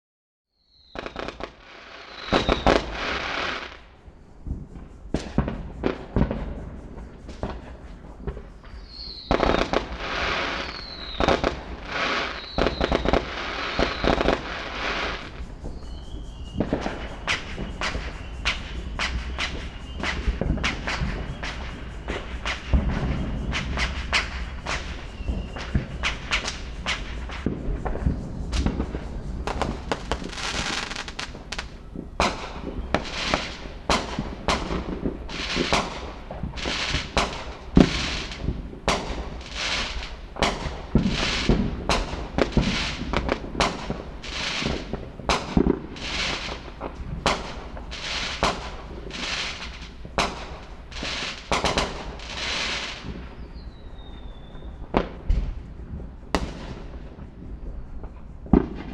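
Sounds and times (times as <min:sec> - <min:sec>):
fireworks crackling bursts: 0:00.8 - 0:58.9
fireworks bangs: 0:00.9 - 0:58.9.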